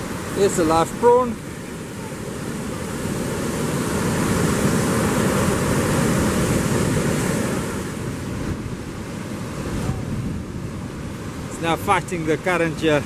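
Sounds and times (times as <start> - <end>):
surf washing on beach: 0.0 - 13.0
wind buffeting microphone: 0.0 - 13.0.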